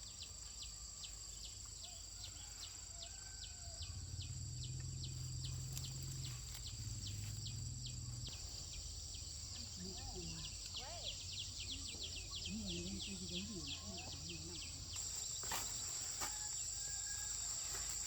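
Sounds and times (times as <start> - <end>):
insect high trill: 2.2 - 18.0.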